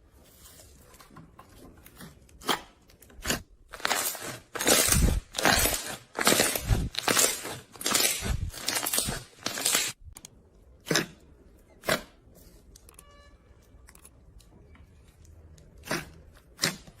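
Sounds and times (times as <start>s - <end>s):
slime squishing: 0.3s - 17.0s.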